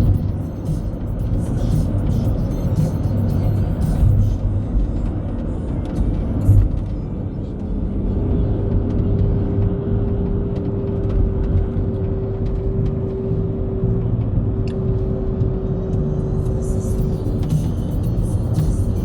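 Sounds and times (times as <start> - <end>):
road vehicle rumbling: 0.0 - 19.0.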